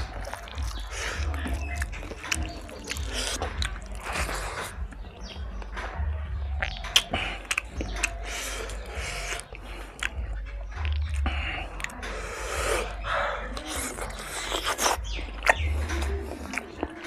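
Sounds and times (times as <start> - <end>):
chewing and smacking: 0.0 - 17.0.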